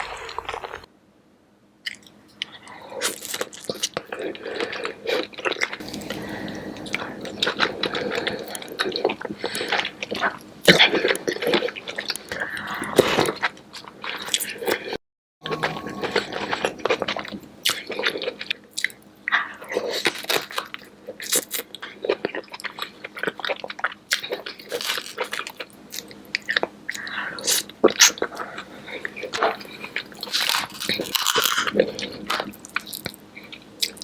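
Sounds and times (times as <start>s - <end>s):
wet chewing and crunching: 0.0s - 0.9s, 1.9s - 15.0s, 16.6s - 34.0s.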